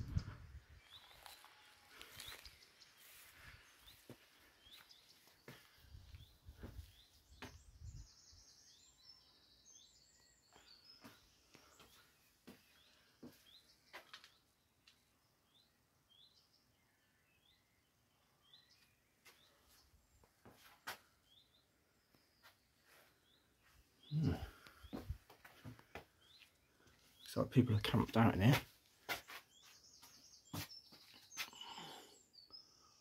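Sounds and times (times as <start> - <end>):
faint bird chirps: 0.0 - 28.5.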